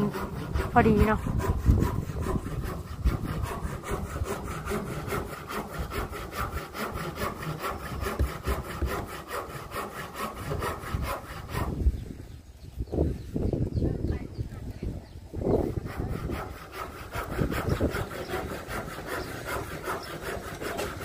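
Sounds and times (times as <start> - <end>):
hand saw cutting wood: 0.0 - 11.8, 15.5 - 21.0.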